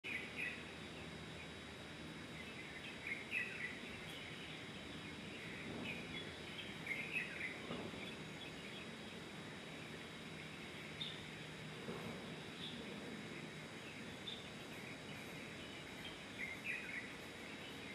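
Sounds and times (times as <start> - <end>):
background ambience: 0.1 - 17.9.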